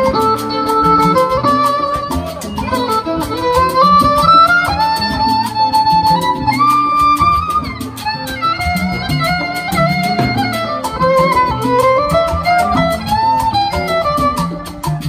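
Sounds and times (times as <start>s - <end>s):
live band playing latin dance music: 0.0s - 15.0s.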